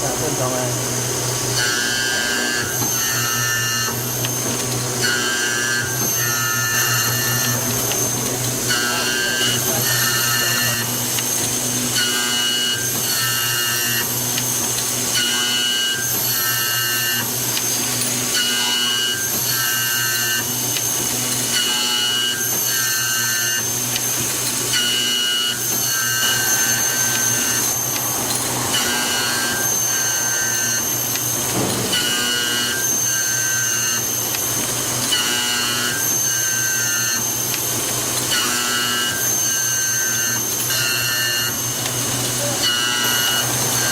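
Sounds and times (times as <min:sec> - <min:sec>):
high machine whine pulses: 0:00.0 - 0:43.9
key milling machine hum: 0:00.0 - 0:43.9.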